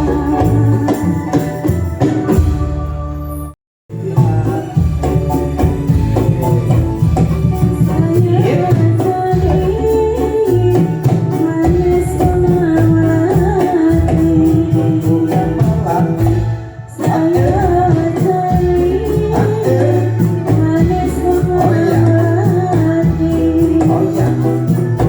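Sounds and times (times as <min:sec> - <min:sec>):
tambourine jingles: 0:00.0 - 0:02.6, 0:04.0 - 0:16.5, 0:17.3 - 0:25.0
sung melody over percussion: 0:00.0 - 0:25.0.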